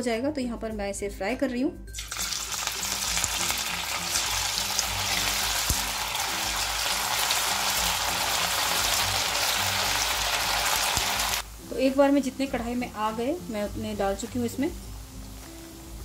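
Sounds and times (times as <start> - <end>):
snacks deep-frying in hot oil: 2.0 - 16.0.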